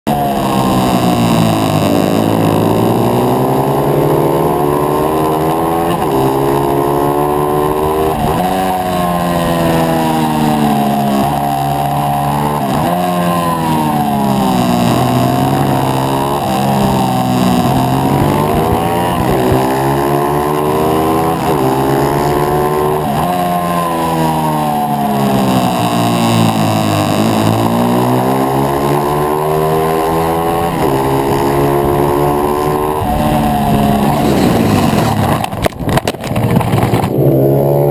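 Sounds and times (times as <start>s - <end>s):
motorbike engine revving: 0.0s - 37.9s.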